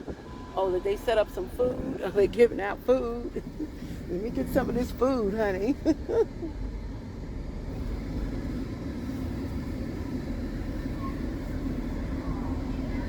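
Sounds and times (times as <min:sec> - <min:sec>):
car engine hum from inside cabin: 0:00.0 - 0:13.0.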